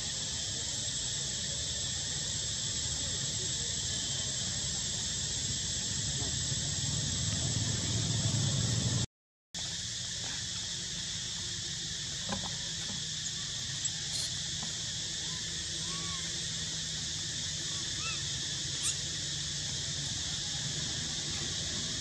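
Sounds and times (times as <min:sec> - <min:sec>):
high insect hiss: 0:00.0 - 0:22.0.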